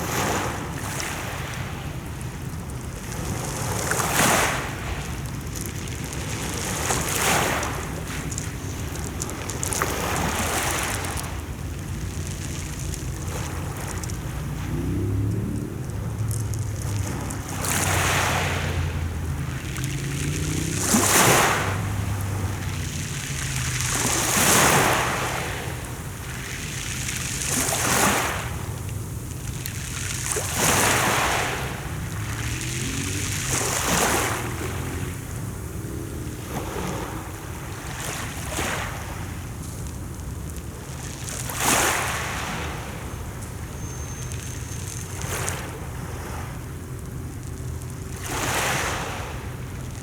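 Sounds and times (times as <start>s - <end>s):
waves washing onto shore: 0.0s - 50.0s.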